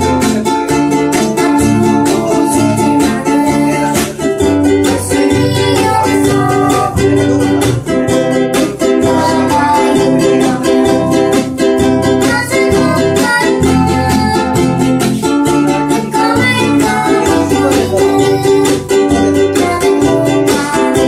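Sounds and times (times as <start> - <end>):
acoustic guitar strumming chords: 0.0 - 21.0
ukulele strumming chords: 0.0 - 21.0.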